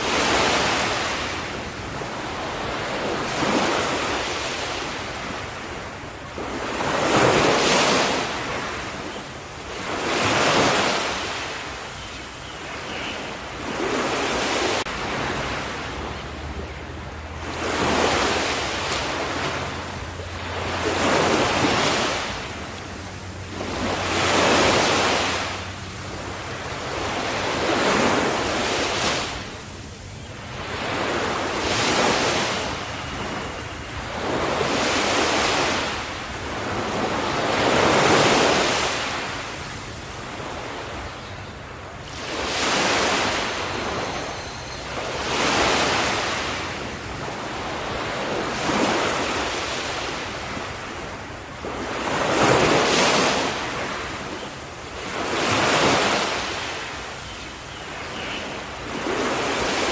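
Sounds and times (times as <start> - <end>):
small waves breaking on shore: 0.0 - 59.9.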